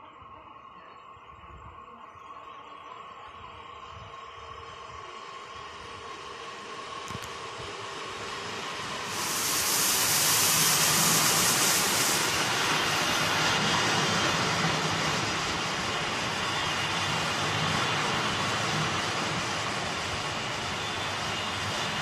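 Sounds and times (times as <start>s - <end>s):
train hiss: 0.0s - 22.0s
train carriages rumbling by: 3.0s - 22.0s.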